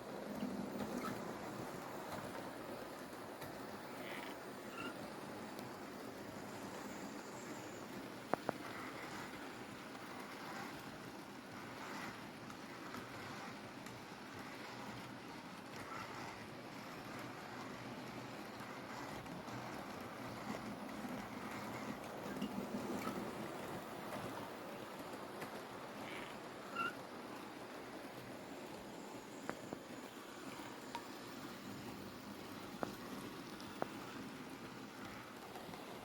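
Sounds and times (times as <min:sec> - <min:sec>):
model train motor and wheels rumbling: 0:00.0 - 0:36.0.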